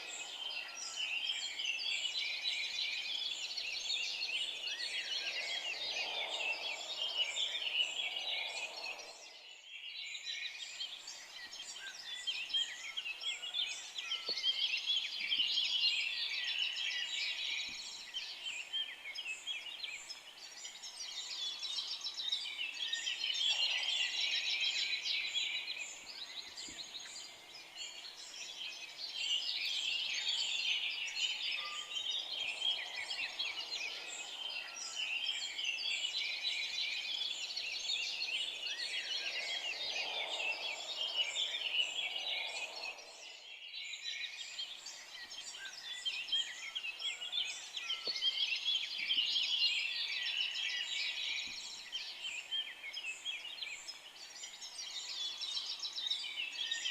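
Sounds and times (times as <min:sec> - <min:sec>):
forest songbirds chirping: 0:00.0 - 0:56.9.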